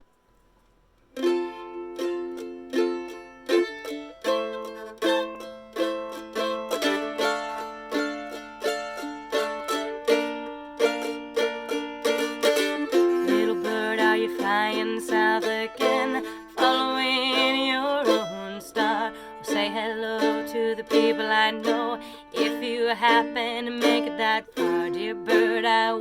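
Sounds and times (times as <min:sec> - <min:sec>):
mandolin playing chords: 0:01.1 - 0:26.0.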